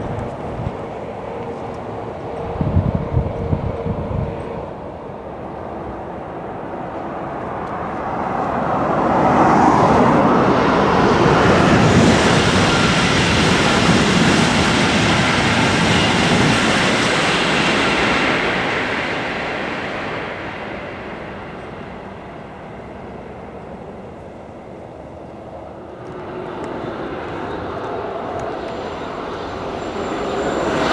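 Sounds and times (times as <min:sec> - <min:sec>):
high-speed train passing: 0:00.0 - 0:30.9.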